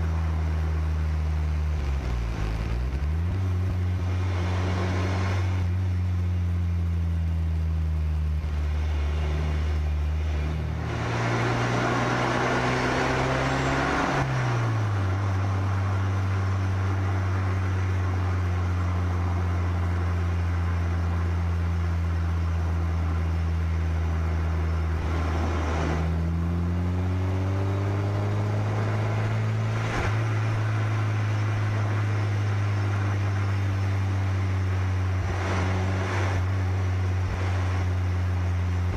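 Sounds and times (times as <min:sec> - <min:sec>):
car engine revving: 0:00.0 - 0:38.9
wind and tyre noise: 0:00.0 - 0:38.9.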